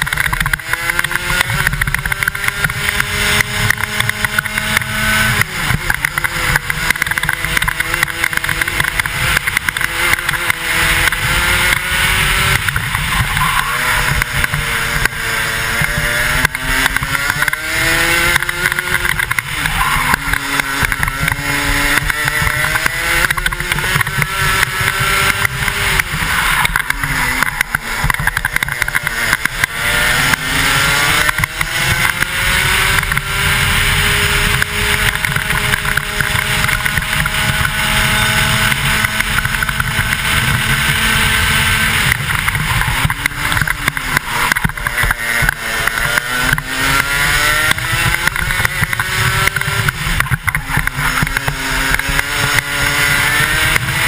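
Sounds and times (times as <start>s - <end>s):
kart engine revving: 0.0s - 54.0s
wind noise on microphone: 0.0s - 54.0s.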